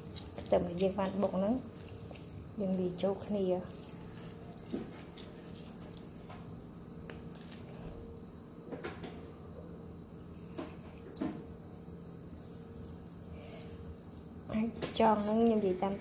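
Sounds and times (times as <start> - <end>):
lime squelching by hand: 0.0 - 7.9, 10.3 - 15.8
juice dripping: 0.0 - 8.0, 10.2 - 15.8
faint steady hum: 0.0 - 16.0.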